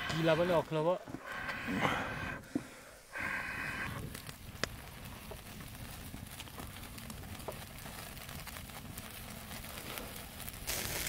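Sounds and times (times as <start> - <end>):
fire crackling: 0.0 - 11.0
steady hiss: 0.0 - 11.0.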